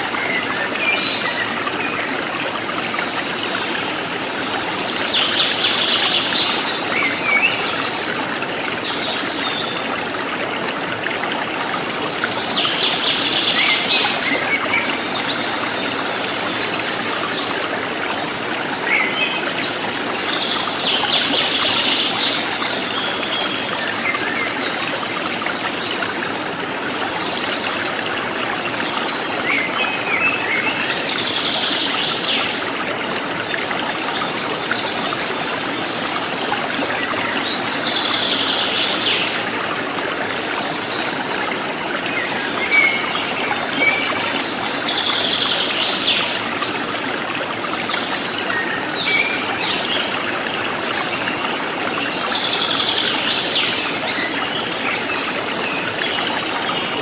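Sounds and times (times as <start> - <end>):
stream water trickling and splashing: 0.0 - 57.0.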